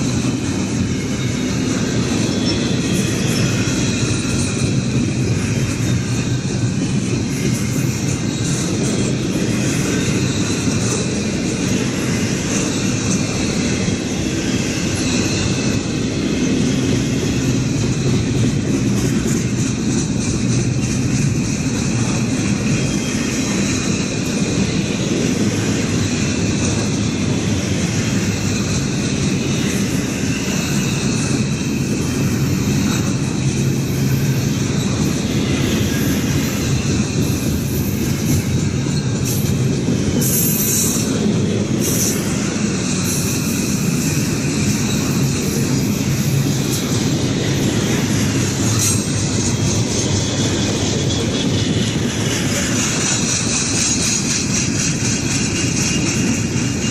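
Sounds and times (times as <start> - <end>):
freight train wheels rumbling: 0.0 - 56.9.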